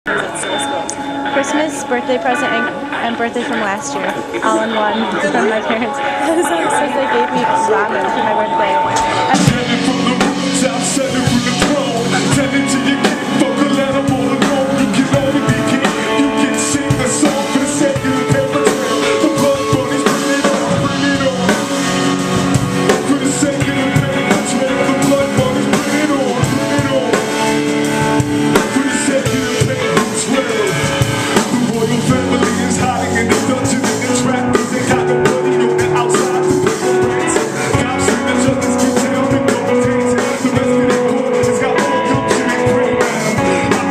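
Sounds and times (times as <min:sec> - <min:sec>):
live band playing: 0:00.1 - 0:43.9.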